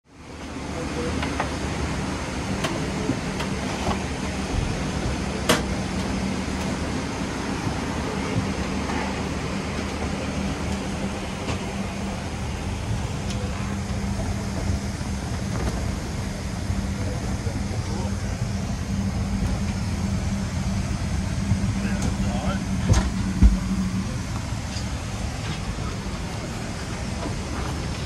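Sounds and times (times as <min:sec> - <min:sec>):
low steady hum: 0:00.2 - 0:28.0
airliner cabin ventilation: 0:00.5 - 0:28.0.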